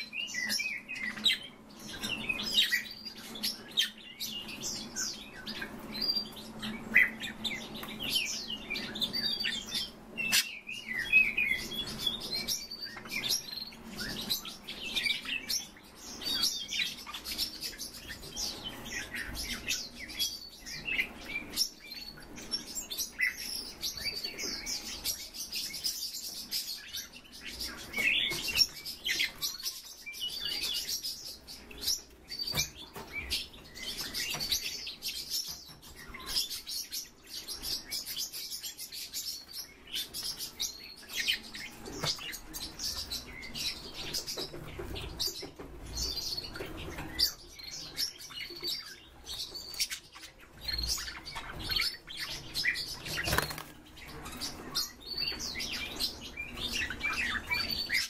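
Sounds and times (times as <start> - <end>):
birds chirping and twittering: 0.0 - 58.0.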